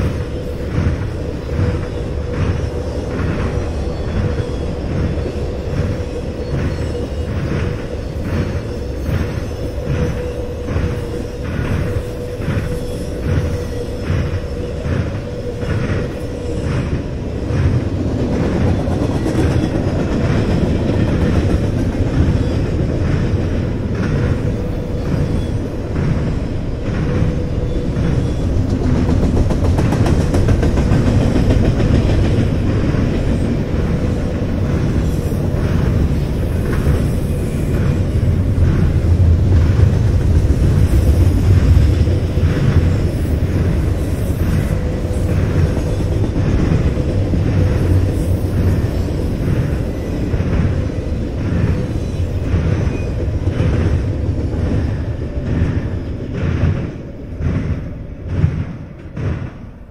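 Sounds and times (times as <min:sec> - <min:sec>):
freight train rumbling past: 0:00.0 - 0:59.9
steel wheels clacking on track: 0:00.0 - 0:59.9.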